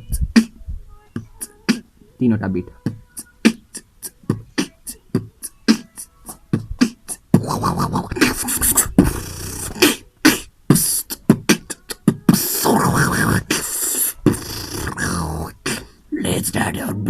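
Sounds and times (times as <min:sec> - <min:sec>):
human beatboxing: 0:00.0 - 0:00.6, 0:01.2 - 0:01.9, 0:02.8 - 0:17.0.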